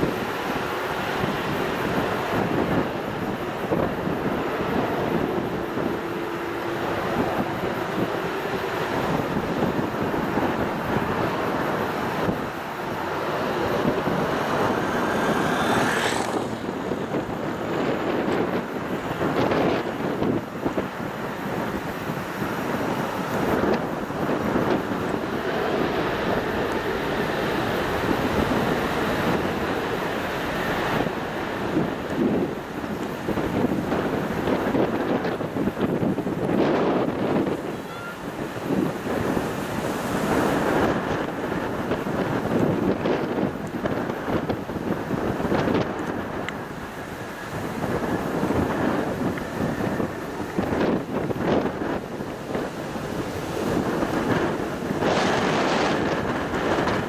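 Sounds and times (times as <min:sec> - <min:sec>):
airliner engines roaring: 0:00.0 - 0:57.0
wind buffeting microphone: 0:00.0 - 0:57.0.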